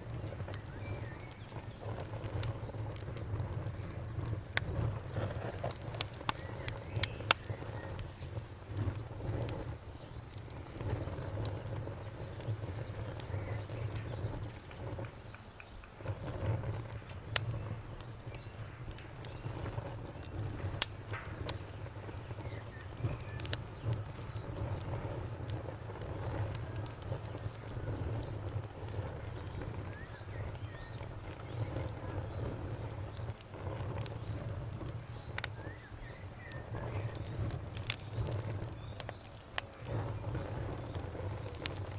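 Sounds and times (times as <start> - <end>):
campfire crackling and popping: 0.0 - 41.9
cricket chirping: 0.0 - 41.9.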